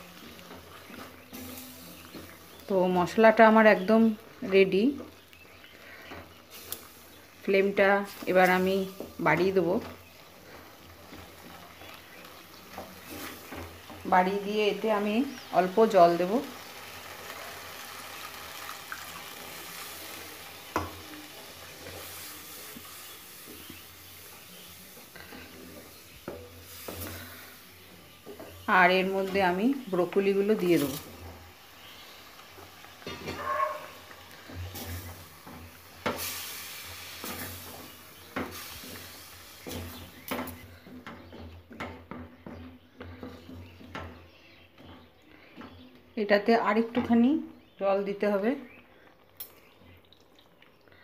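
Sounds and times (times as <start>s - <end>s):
wooden spatula stirring: 0.0s - 47.2s
water sizzling in hot wok: 0.0s - 50.6s.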